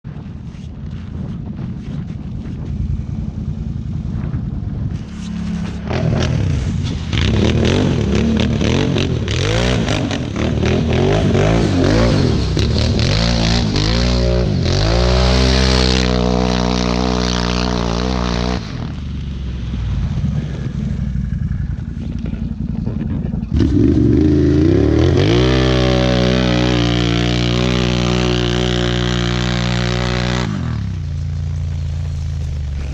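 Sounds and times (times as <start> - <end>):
engine revving: 5.0 - 31.8.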